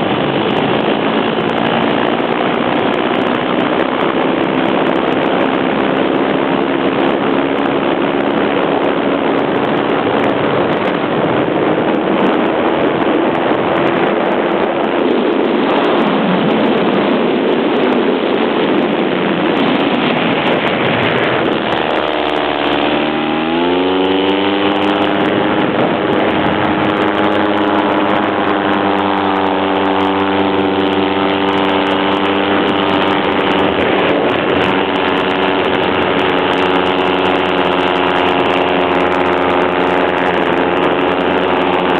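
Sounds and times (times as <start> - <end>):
loud wind rush: 0.0 - 41.9
small propeller engine running: 0.0 - 41.9.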